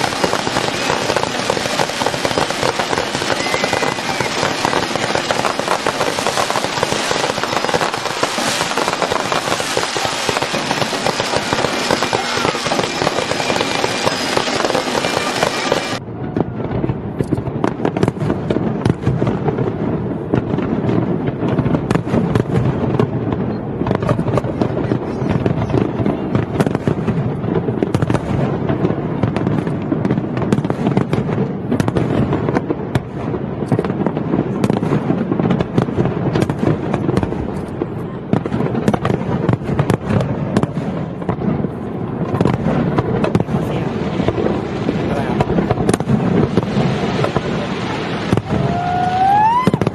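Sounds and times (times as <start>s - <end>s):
fireworks crackling and popping: 0.0s - 49.9s.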